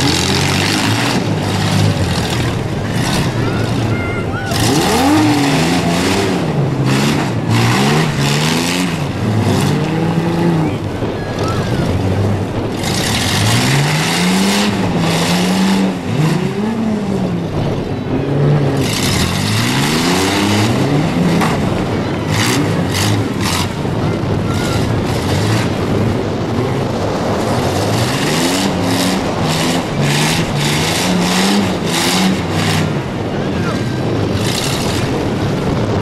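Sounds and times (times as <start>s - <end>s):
tyres spinning in dirt: 0.0s - 36.0s
van engines revving: 0.0s - 36.0s.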